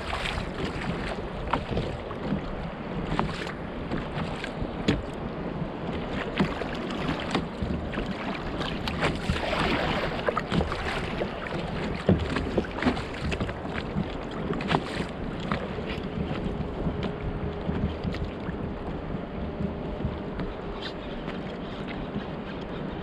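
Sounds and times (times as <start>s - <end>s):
rush of water: 0.0s - 23.0s
water lapping against kayak hull: 0.0s - 23.0s
wind on microphone: 0.0s - 23.0s.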